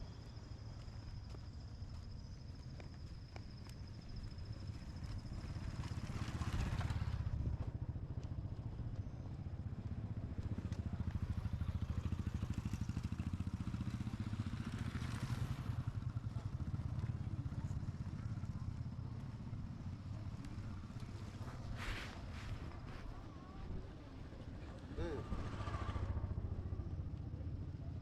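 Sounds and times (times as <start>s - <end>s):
vehicle engine on rough road: 0.0s - 28.0s.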